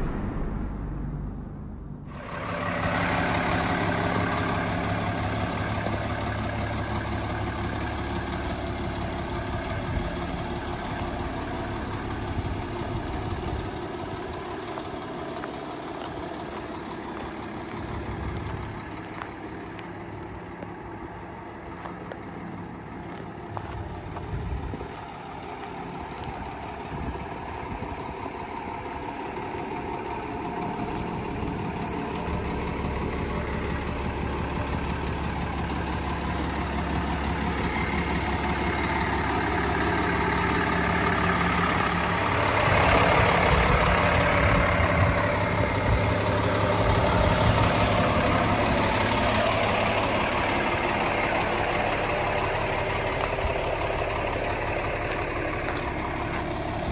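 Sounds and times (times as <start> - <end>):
diesel truck engine idling: 0.0 - 56.9.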